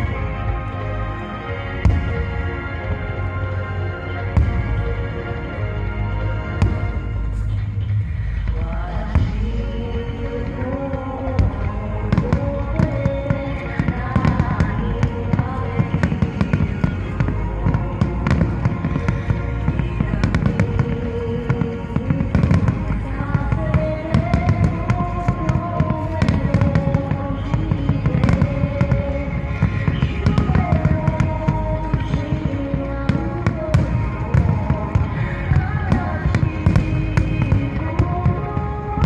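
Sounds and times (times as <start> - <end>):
fireworks bursting and crackling: 0.0 - 39.0
slow melodic song: 0.0 - 39.0.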